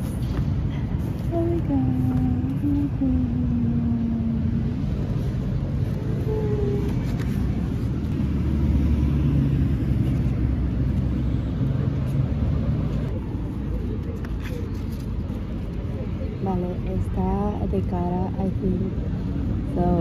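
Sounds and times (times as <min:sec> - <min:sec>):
heavy vehicle engine hum: 0:00.0 - 0:20.0
road traffic rumbling: 0:00.0 - 0:20.0.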